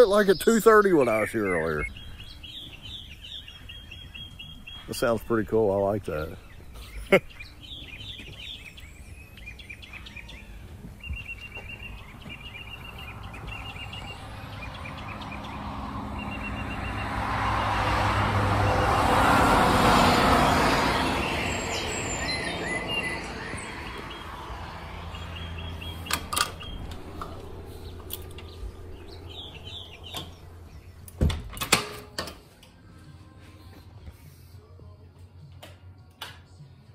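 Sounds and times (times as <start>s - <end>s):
vehicle passing: 0.0s - 31.5s
songbirds chirping: 0.0s - 36.9s.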